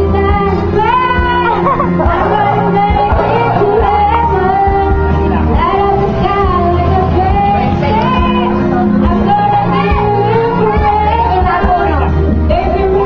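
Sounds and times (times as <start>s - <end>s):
karaoke backing track: 0.0s - 13.0s
woman singing into a microphone: 0.0s - 13.0s.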